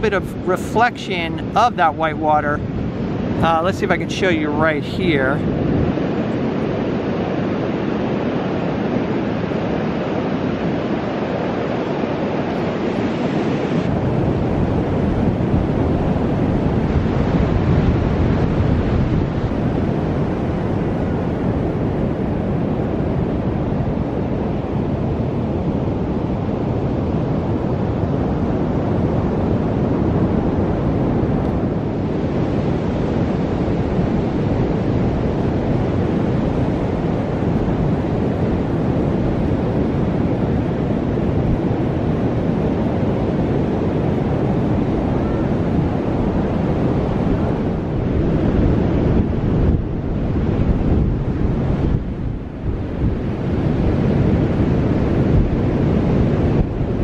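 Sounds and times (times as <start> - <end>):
ocean surf breaking: 0.0 - 57.0
wind buffeting microphone: 0.0 - 57.0.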